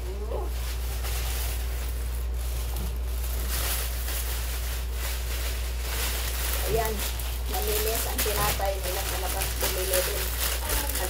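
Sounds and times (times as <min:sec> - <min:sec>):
plastic bags rustling: 0:00.0 - 0:11.0
steady low hum: 0:00.0 - 0:11.0.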